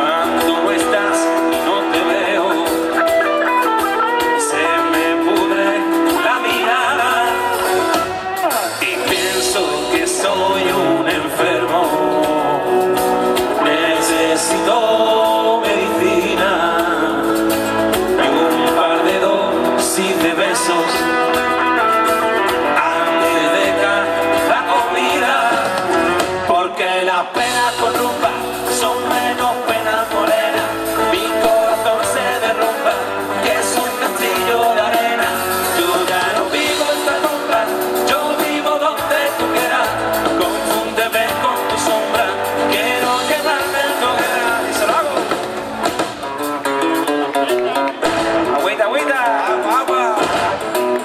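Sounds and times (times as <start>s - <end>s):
bass guitar: 0.0s - 51.0s
drums: 0.0s - 51.0s
guitars: 0.0s - 51.0s
live rock band playing: 0.0s - 51.0s
man singing: 0.0s - 51.0s.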